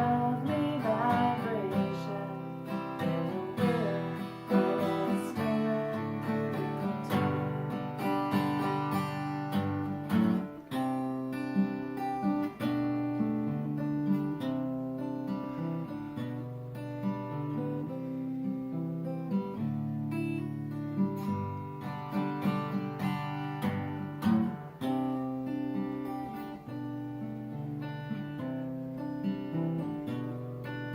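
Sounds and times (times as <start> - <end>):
acoustic guitar strummed and picked: 0.0 - 30.9.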